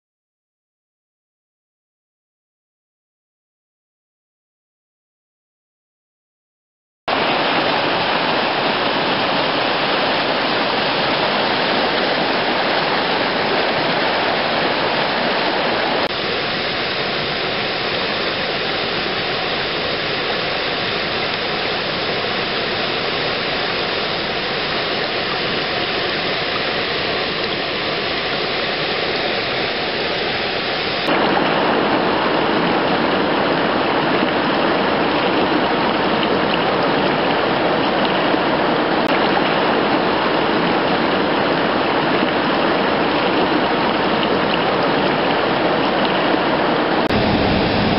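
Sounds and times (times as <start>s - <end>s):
stream rushing over rocks: 7.1s - 47.9s.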